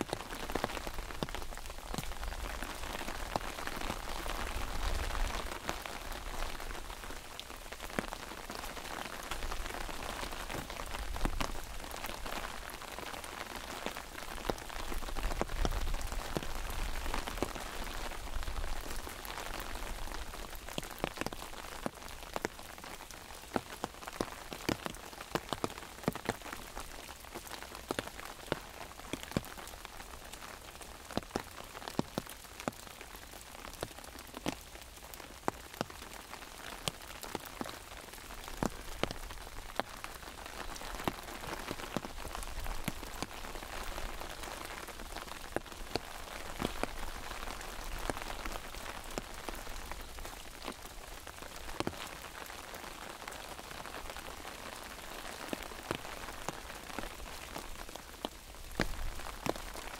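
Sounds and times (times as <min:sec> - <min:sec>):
rain on an umbrella: 0:00.0 - 0:59.9
raindrops tapping canopy: 0:00.0 - 0:59.9.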